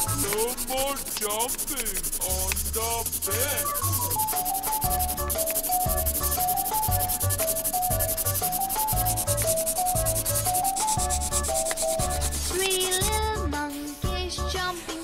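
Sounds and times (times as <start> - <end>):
pen scribbling on paper: 0.0 - 14.1
simple children's tune: 0.0 - 15.0.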